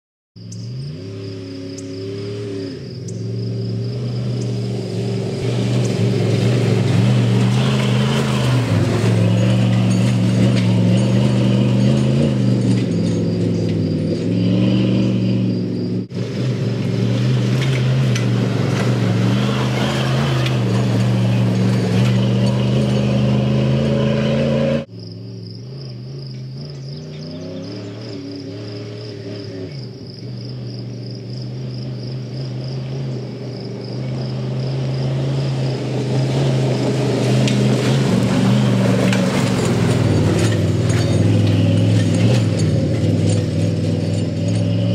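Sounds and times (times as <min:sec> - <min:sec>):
crickets chirping: 0:00.4 - 0:23.7, 0:24.9 - 0:44.9
off-road vehicle engine revving: 0:00.4 - 0:44.9.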